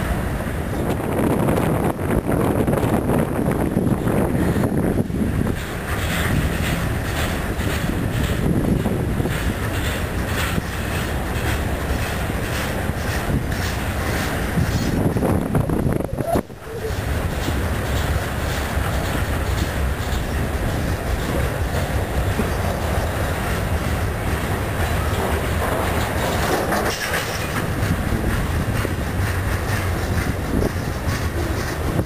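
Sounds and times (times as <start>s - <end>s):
wheels rumbling on rail: 0.0s - 32.0s
wheels clicking over rail joints: 2.1s - 32.0s.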